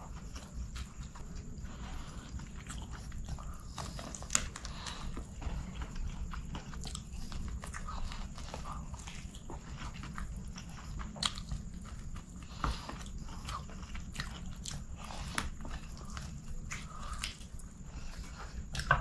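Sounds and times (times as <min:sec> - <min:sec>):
low steady hum: 0:00.0 - 0:19.0
person chewing food: 0:00.0 - 0:19.0.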